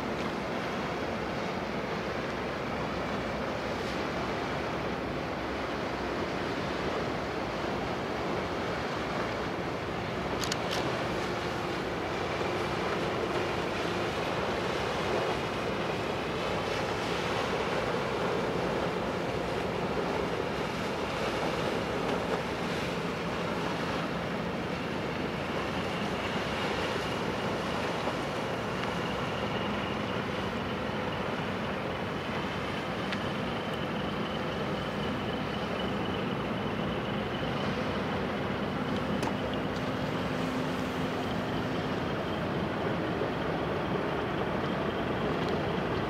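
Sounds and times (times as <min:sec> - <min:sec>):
faint high whine: 0:00.0 - 0:46.0
ferry engine running: 0:00.0 - 0:46.0
wind: 0:00.0 - 0:46.0.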